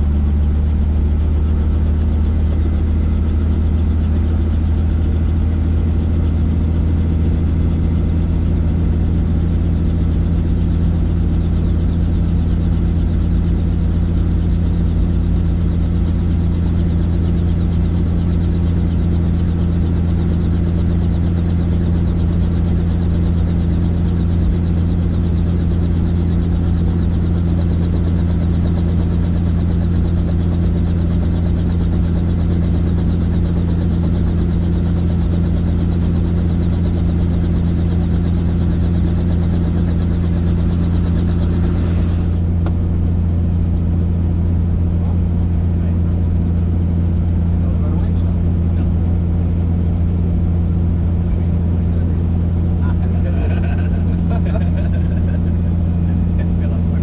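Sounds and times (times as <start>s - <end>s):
helicopter engine and rotors: 0.0s - 57.0s.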